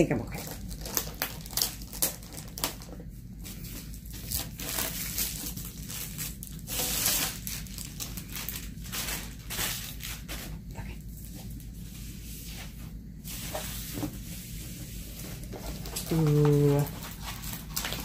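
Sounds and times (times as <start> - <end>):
plastic wrapping crinkling: 0.1 - 14.2, 15.0 - 18.0.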